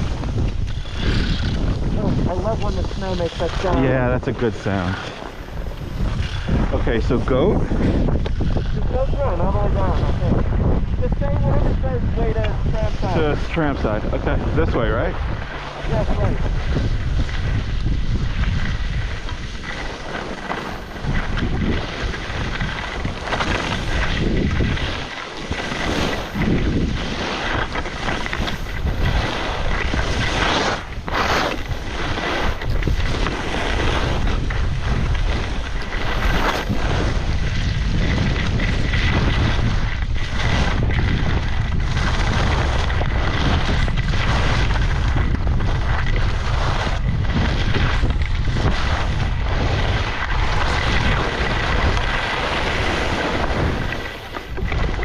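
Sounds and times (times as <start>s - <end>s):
skis sliding over snow: 0.0s - 55.0s
wind rushing over microphone: 0.0s - 55.0s.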